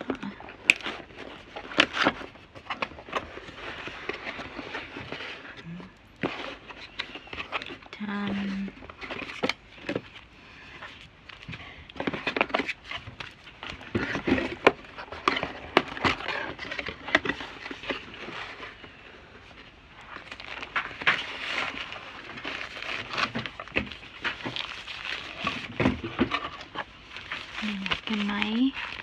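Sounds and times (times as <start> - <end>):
cardboard and wrapping rustling: 0.0 - 29.0.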